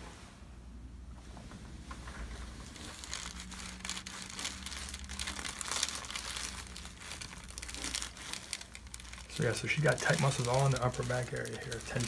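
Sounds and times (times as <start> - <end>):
soft rustling and crinkling: 1.2 - 12.0.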